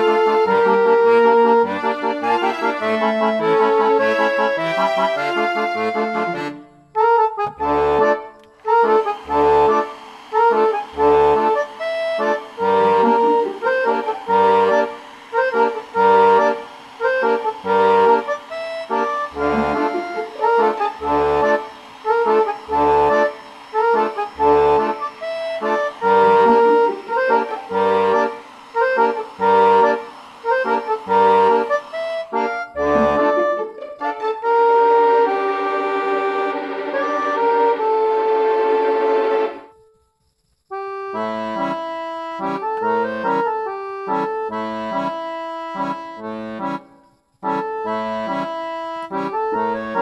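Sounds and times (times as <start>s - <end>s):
instrumental music with bass: 0.0s - 39.5s, 40.8s - 50.0s.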